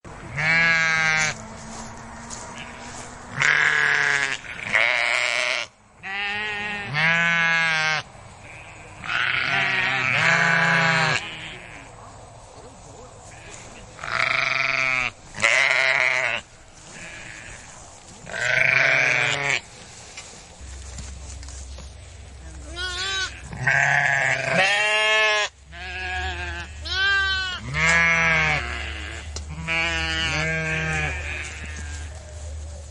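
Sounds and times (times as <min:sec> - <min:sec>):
sheep bleating: 0:00.3 - 0:01.4, 0:02.3 - 0:11.9, 0:13.2 - 0:19.6, 0:22.6 - 0:32.1.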